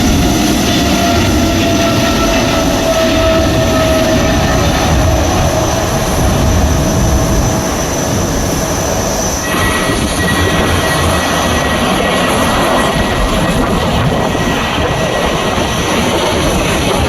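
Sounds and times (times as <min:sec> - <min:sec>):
aircraft engine roar with whine: 0:00.0 - 0:17.0.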